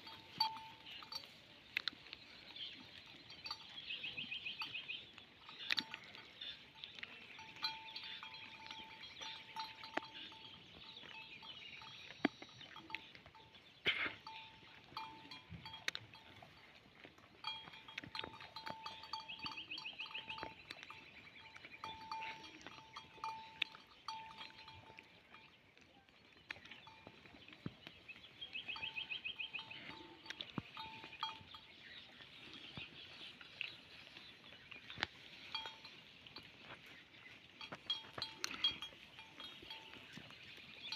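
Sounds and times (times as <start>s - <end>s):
goats feeding clicks and rustles: 0.0s - 40.9s.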